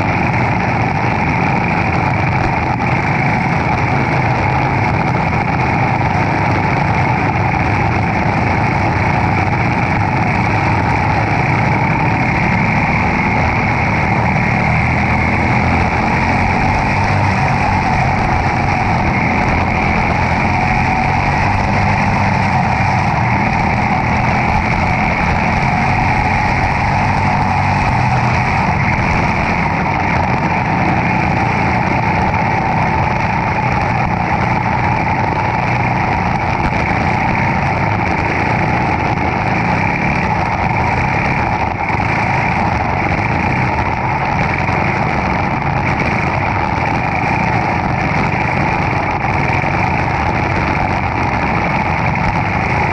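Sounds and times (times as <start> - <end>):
kart engine running: 0.0 - 52.9.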